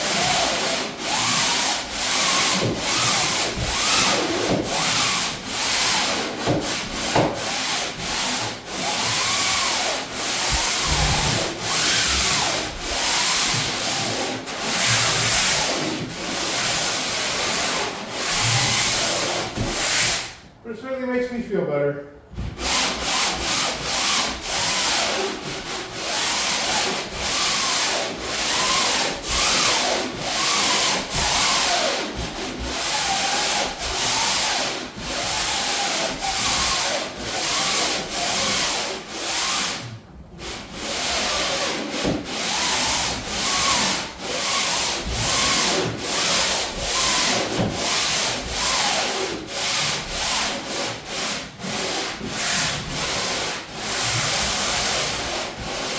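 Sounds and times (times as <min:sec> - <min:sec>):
sandpaper rubbing on plywood: 0:00.0 - 0:20.4, 0:22.6 - 0:55.9.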